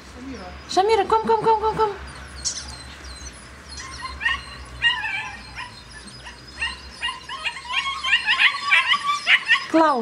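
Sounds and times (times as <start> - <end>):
puppies yipping: 1.4 - 10.0.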